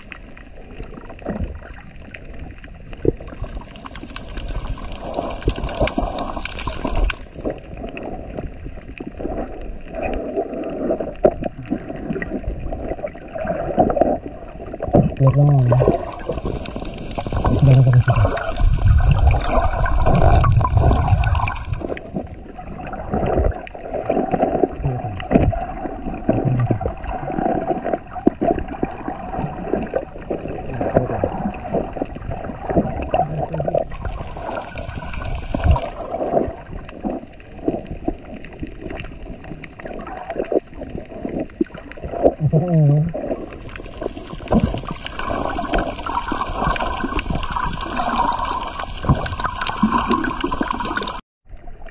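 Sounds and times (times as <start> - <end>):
underwater clicks and gurgles: 0.0 - 51.9
underwater sloshing and bubbling: 0.0 - 51.9.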